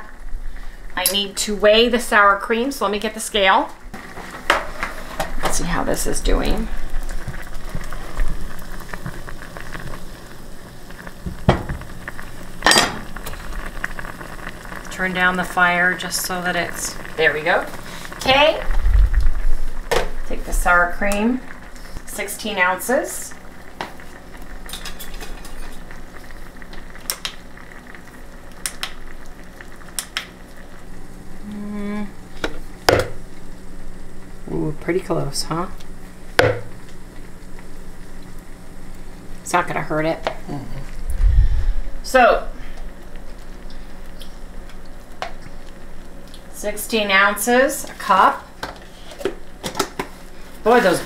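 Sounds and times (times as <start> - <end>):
berries boiling and bubbling: 0.0 - 51.0.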